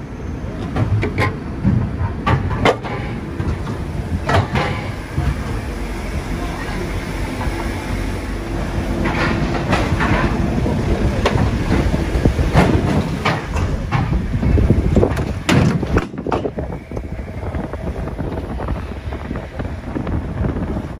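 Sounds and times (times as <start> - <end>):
road and wind noise: 0.0 - 20.9
vehicle engine and tyres rumble: 0.0 - 20.9.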